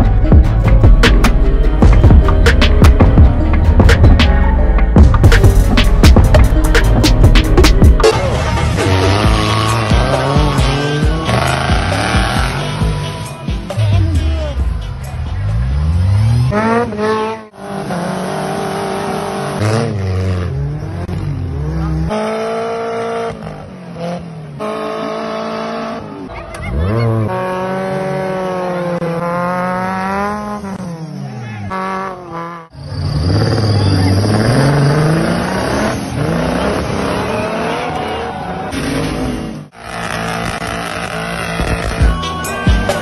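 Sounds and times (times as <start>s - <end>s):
buggy engines revving: 0.0s - 43.0s.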